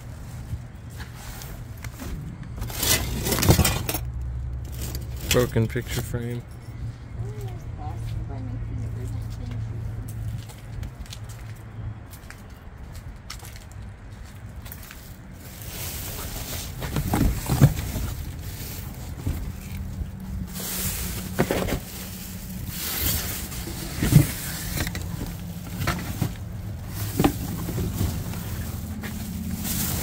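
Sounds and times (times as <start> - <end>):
vehicle humming: 0.0 - 30.0.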